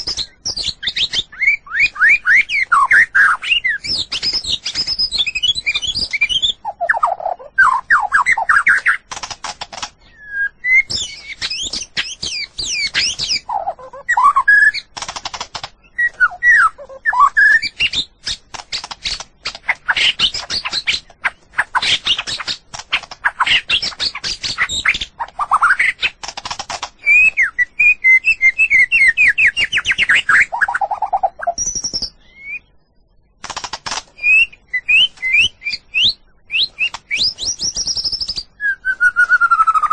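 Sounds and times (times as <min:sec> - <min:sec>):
songbird singing: 0:00.0 - 0:33.4, 0:34.1 - 0:39.9.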